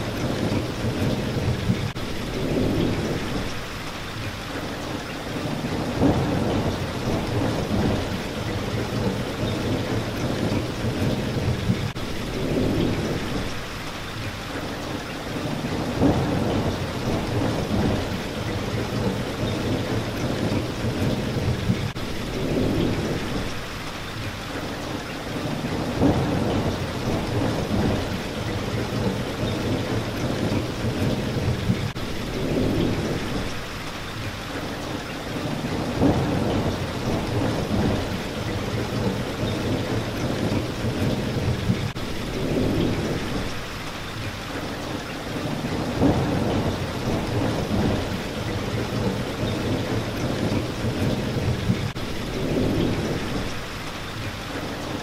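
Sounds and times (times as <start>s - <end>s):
thunder rumbling: 0.0s - 3.7s, 5.4s - 13.7s, 15.4s - 23.7s, 25.4s - 33.8s, 35.3s - 43.8s, 45.3s - 53.8s
rain on a window: 0.0s - 55.0s.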